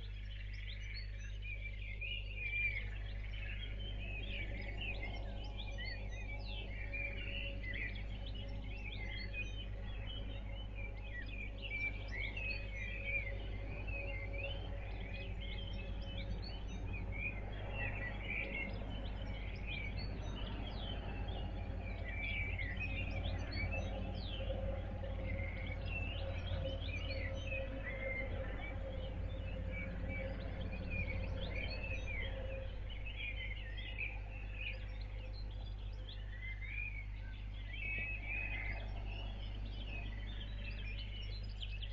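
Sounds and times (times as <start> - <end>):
birds chirping: 0.0 - 41.9
low hum: 0.0 - 41.9.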